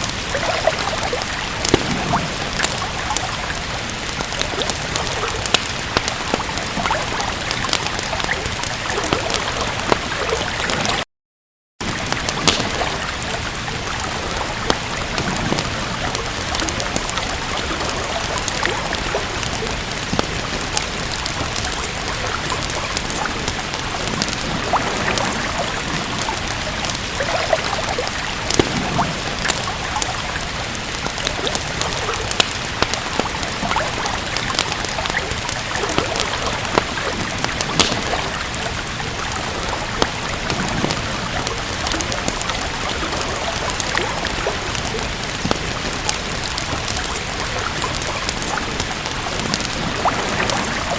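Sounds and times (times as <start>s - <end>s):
rain hissing: 0.0s - 11.0s, 11.8s - 50.9s
wood fire crackling: 0.0s - 11.0s, 11.8s - 50.9s.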